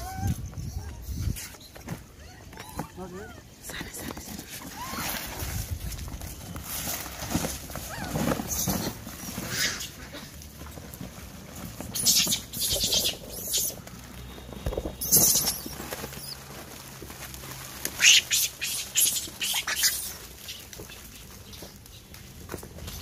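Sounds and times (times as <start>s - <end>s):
plastic packets crinkling and rustling: 1.5s - 23.0s.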